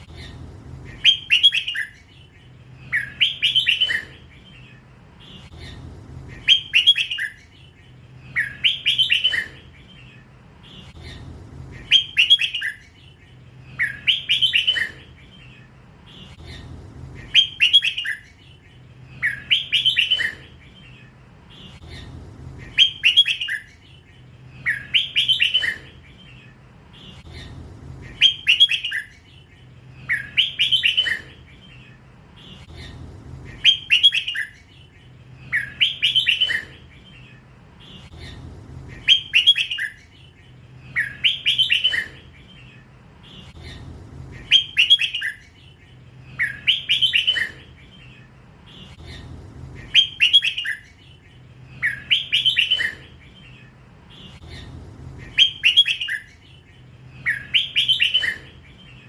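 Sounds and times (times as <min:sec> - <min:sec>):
bulbul singing: 0:00.0 - 0:59.0.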